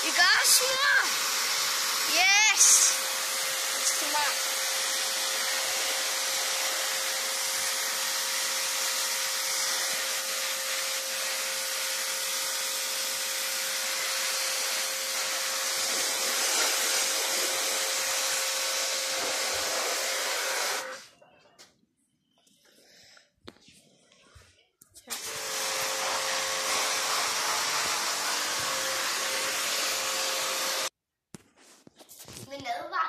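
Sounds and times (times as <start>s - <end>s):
pressure washer motor tone: 0.0s - 21.0s, 25.1s - 30.9s
pressure washer spray hissing: 0.0s - 21.0s, 25.1s - 30.9s.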